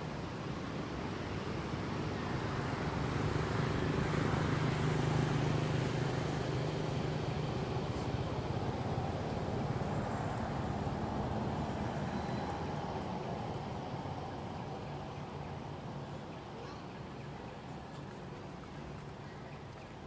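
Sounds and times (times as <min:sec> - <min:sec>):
vehicle engine drone: 0:00.0 - 0:20.0.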